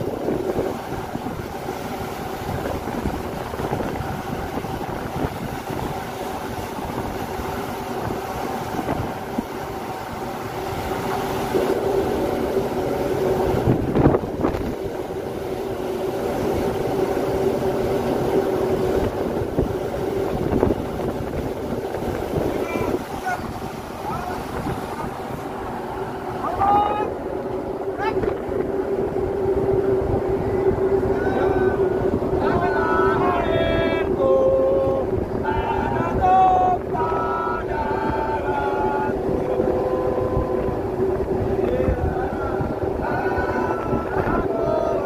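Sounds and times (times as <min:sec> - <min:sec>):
wind blowing on microphone: 0:00.0 - 0:17.2, 0:17.8 - 0:45.0
deck machinery: 0:00.0 - 0:45.0
ship engine drone: 0:00.0 - 0:45.0.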